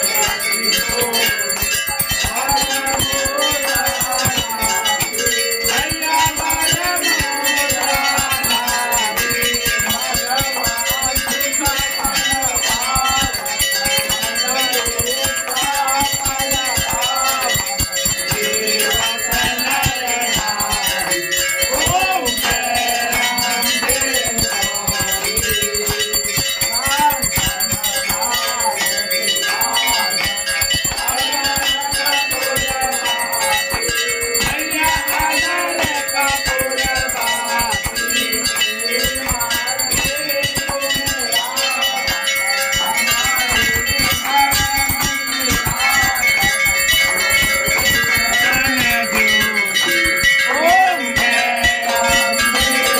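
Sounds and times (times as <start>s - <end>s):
temple bells ringing rapidly: 0.0s - 52.9s
voices singing: 0.0s - 52.9s.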